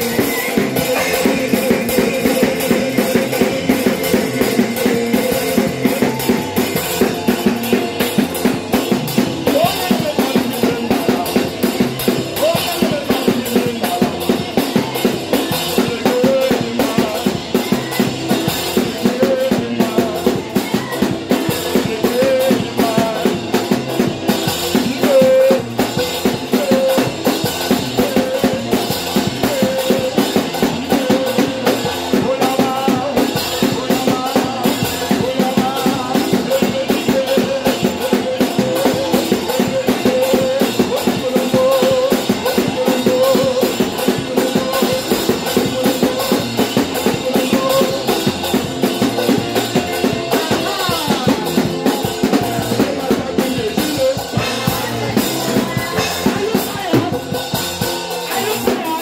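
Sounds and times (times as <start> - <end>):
dance music with drum beat: 0.0 - 59.0.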